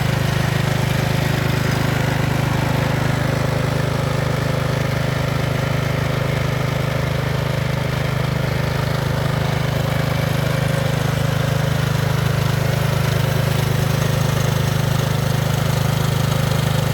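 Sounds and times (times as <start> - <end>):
lawnmower engine running: 0.0 - 16.9.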